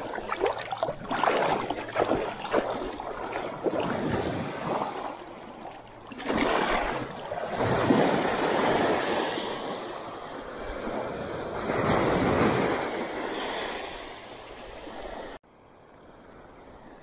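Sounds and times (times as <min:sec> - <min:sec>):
small waves breaking on shore: 0:00.0 - 0:17.0.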